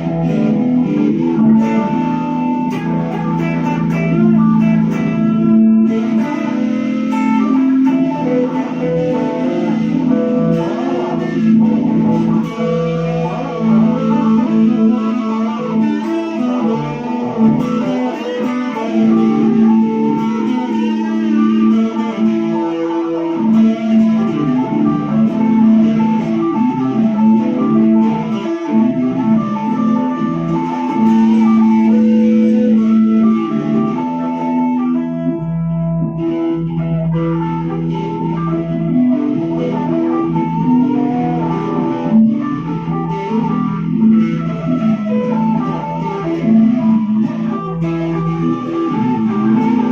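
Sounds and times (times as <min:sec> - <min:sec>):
blues guitar playing: 0:00.0 - 0:49.9.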